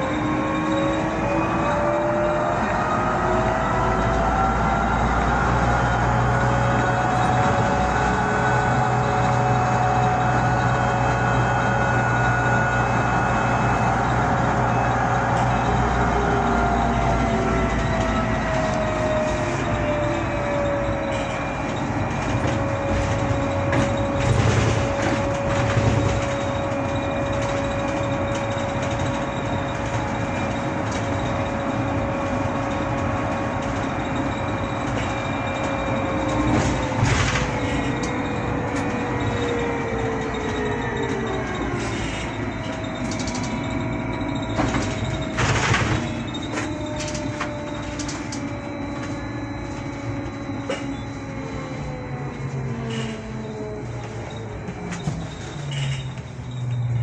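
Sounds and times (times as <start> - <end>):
road and ride noise: 0.0 - 57.0.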